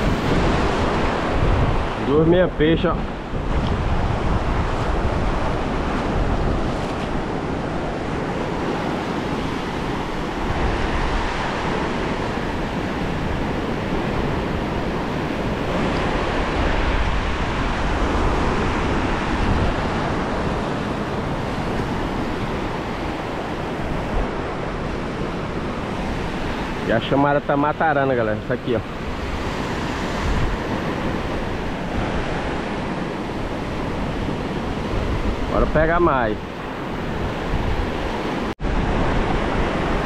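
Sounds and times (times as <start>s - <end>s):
surf washing on sandy beach: 0.0s - 40.0s
wind buffeting microphone: 0.0s - 40.0s.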